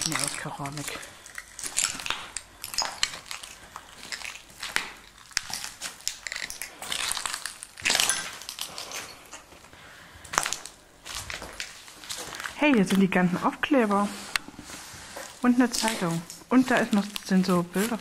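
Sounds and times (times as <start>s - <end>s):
footsteps crunching on broken ceramic: 0.0s - 18.0s.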